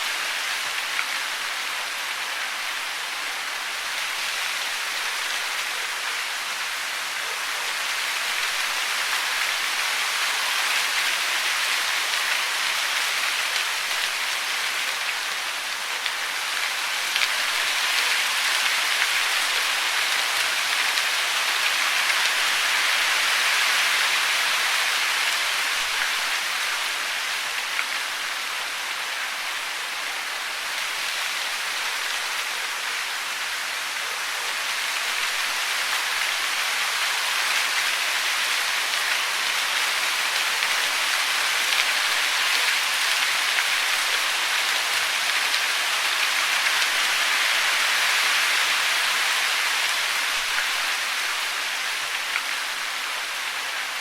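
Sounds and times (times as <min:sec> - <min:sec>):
rushing falling water: 0:00.0 - 0:54.0.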